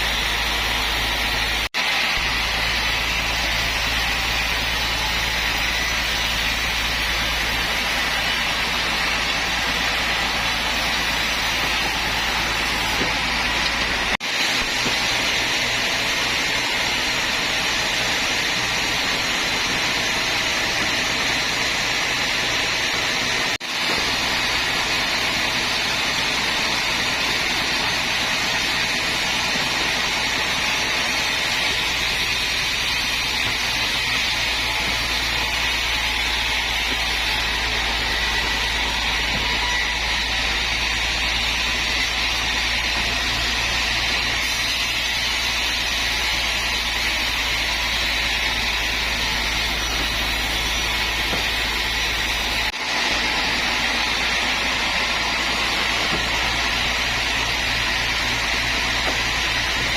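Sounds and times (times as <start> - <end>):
sawmill machinery whirring: 0.0 - 59.9.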